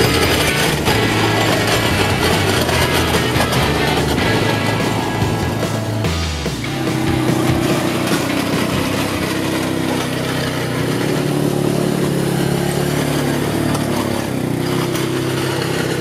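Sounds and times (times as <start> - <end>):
atv engine running under load: 0.0 - 16.0.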